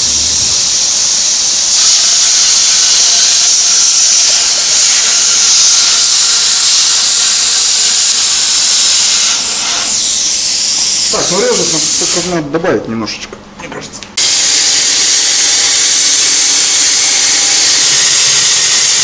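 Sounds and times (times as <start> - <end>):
plasma cutter hissing: 0.0 - 12.4, 14.2 - 19.0.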